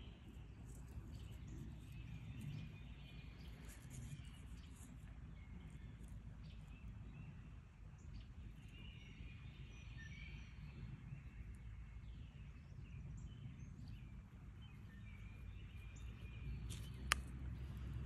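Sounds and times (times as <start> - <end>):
low steady rumble: 0.0 - 18.0
songbirds chirping: 0.0 - 18.0.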